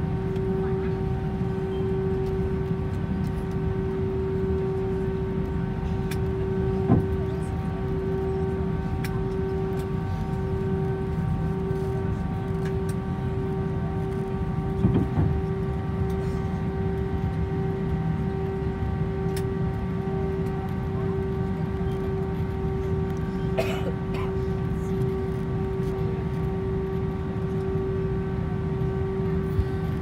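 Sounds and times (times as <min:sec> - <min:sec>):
jet engines idling in cabin: 0:00.0 - 0:30.0.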